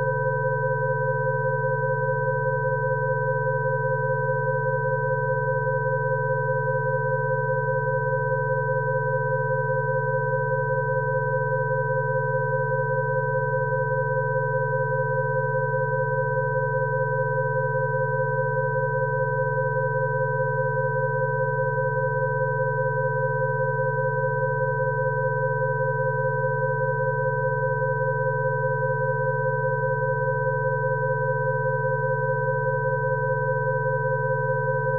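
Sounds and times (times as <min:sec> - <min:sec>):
mid-pitched sine tones: 0:00.0 - 0:34.9.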